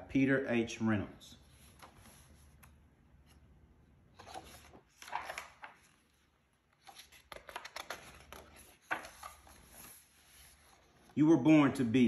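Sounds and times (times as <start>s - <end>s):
book pages turning: 1.4s - 11.2s.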